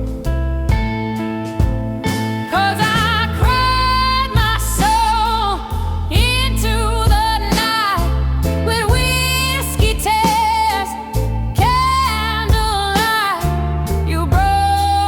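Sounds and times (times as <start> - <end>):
slow soul blues ballad: 0.0 - 15.0.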